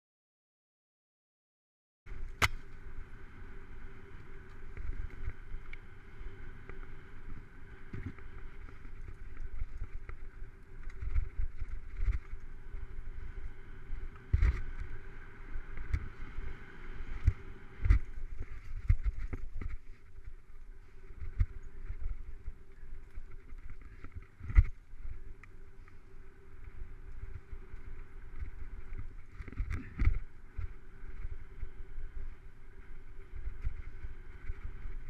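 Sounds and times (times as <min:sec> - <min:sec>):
bike tyres and frame rattling: 0:02.1 - 0:35.0.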